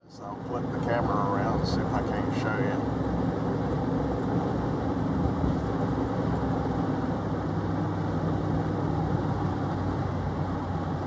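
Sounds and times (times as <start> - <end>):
vehicle engine running steadily: 0.0 - 11.0.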